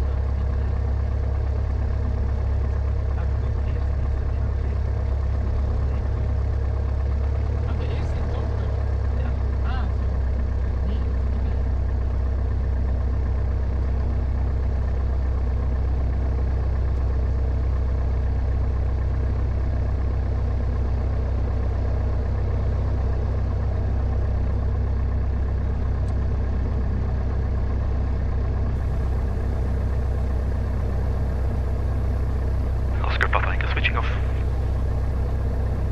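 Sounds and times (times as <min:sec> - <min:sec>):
aircraft engine droning in cockpit: 0:00.0 - 0:35.9.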